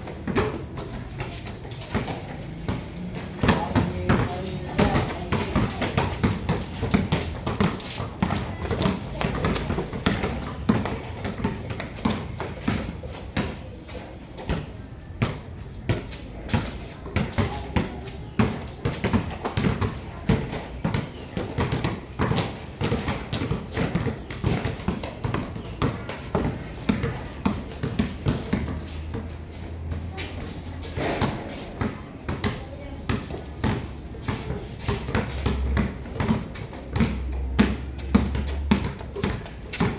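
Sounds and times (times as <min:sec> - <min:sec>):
basketballs bouncing on hard court: 0:00.0 - 0:39.9.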